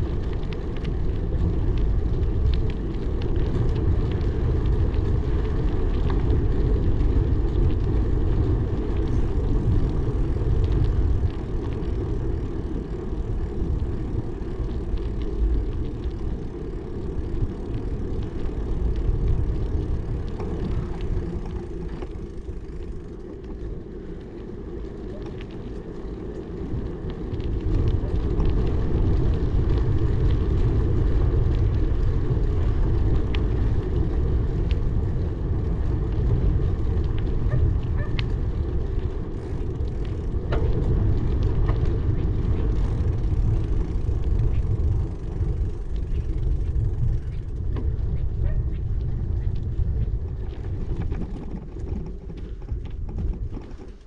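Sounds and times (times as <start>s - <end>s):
bicycle clicks and rattles: 0.0s - 54.0s
wind rumbling on microphone: 0.0s - 54.0s.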